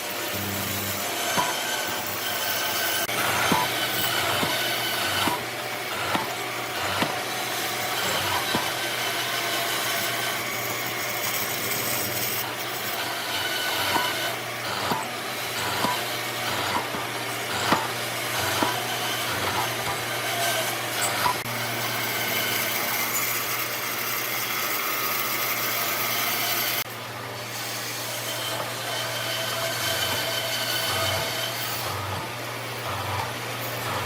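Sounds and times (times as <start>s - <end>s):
tool scraping wood: 0.0s - 26.9s, 27.5s - 34.0s.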